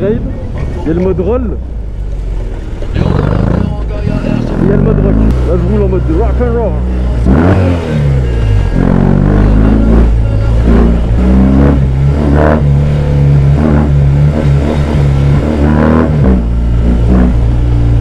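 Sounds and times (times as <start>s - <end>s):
motorcycle engine revving: 2.9s - 18.0s.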